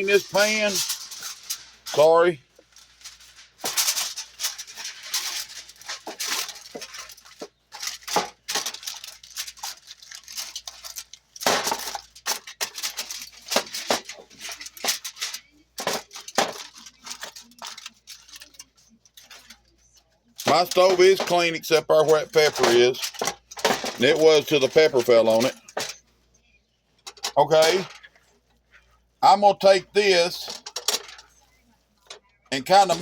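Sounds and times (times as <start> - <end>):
aluminum foil crinkling: 0.0 - 33.0.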